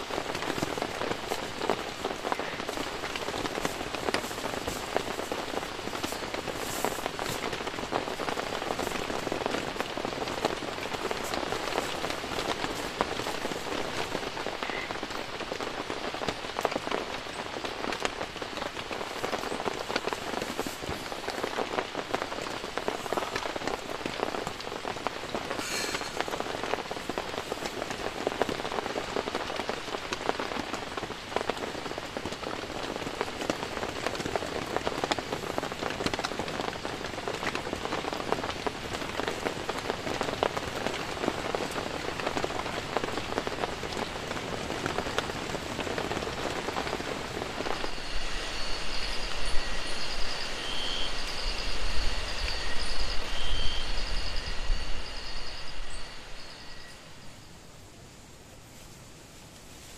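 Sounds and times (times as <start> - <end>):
heavy rain drumming on a tent: 0.0 - 59.9.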